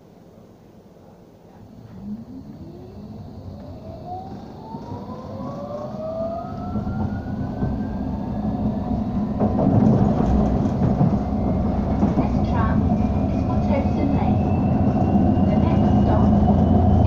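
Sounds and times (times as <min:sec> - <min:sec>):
wheels rumbling on rail: 0:01.2 - 0:17.0
tram motor whine: 0:01.5 - 0:17.0.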